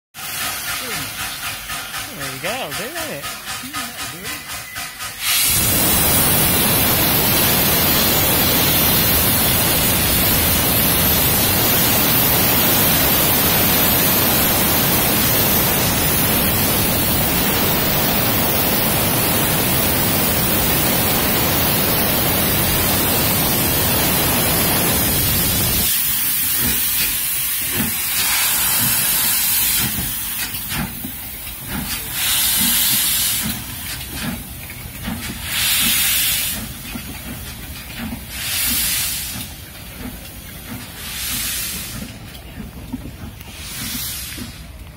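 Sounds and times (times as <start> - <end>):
steam locomotive exhaust beats: 0.2 - 44.9
steam locomotive hissing steam: 0.2 - 44.9.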